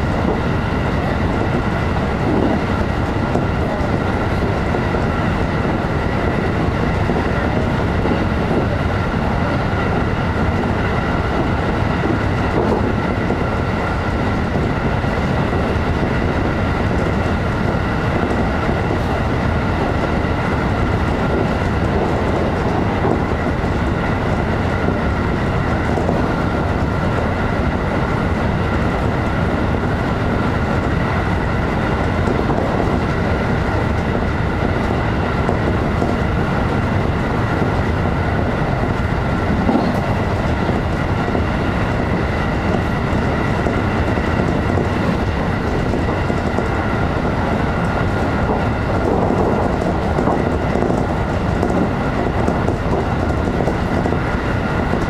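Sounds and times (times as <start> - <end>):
train high whine: 0.0 - 55.0
train wheels rumbling on rail: 0.0 - 55.0.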